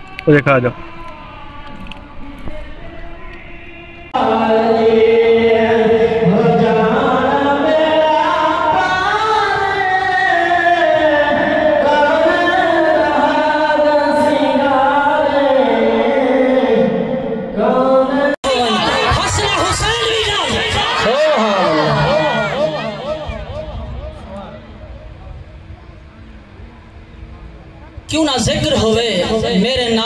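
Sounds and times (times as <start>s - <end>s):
man singing unaccompanied: 0.0s - 24.7s.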